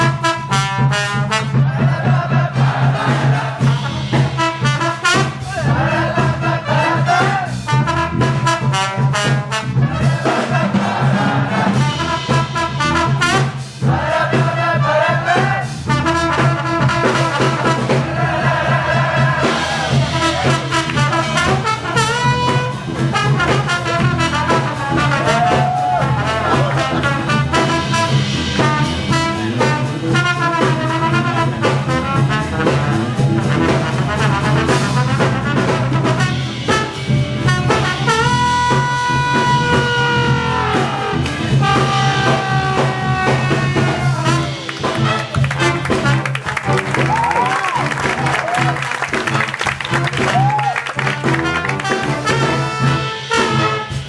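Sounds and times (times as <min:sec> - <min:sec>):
big band jazz: 0:00.0 - 0:54.0
trumpets and trombones: 0:00.0 - 0:54.0.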